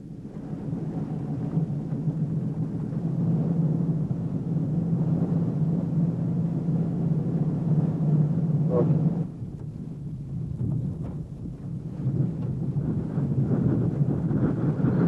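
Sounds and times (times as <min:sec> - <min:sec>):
boat engine humming: 0:00.0 - 0:14.9.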